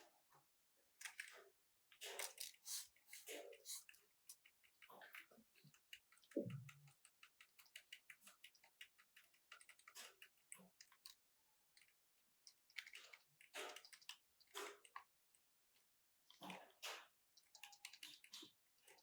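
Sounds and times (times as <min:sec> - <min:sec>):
faint irregular clicks: 0:02.0 - 0:15.5, 0:16.4 - 0:19.0.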